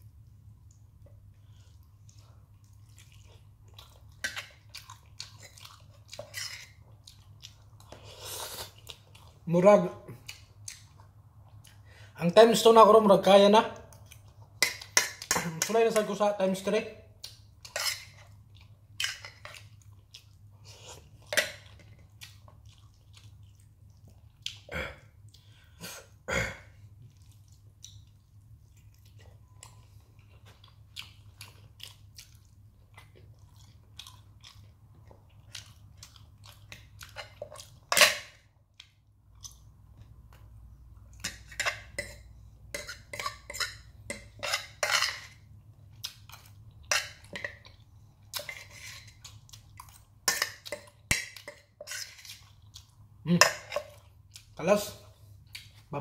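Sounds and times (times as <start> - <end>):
faint low hum: 0.0 - 56.0
chewing and mouth sounds: 0.6 - 11.9, 17.2 - 26.2, 26.8 - 55.9.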